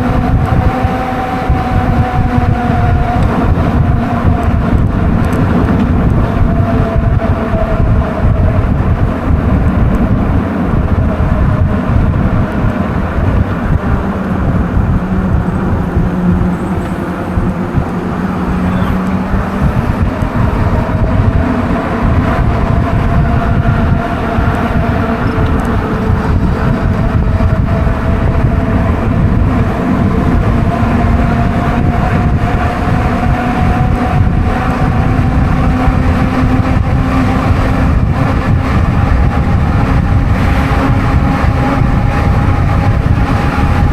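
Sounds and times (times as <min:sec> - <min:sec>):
electric motor whine: 0:00.0 - 0:43.9
tyre noise on wet road: 0:00.0 - 0:43.9
wind rumbling on microphone: 0:00.0 - 0:43.9.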